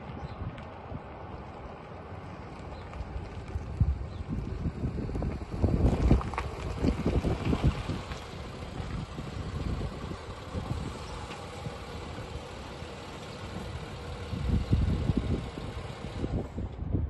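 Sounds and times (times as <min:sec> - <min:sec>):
car engine running at low speed: 0:00.0 - 0:17.0
wind rumble on microphone: 0:00.0 - 0:17.0.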